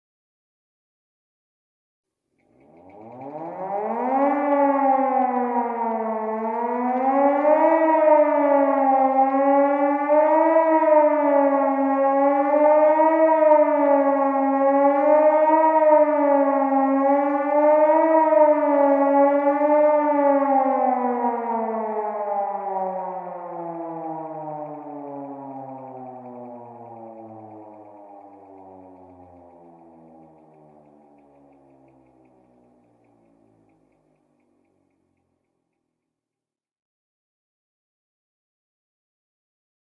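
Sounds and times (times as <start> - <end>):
warning siren wailing: 2.6 - 34.8.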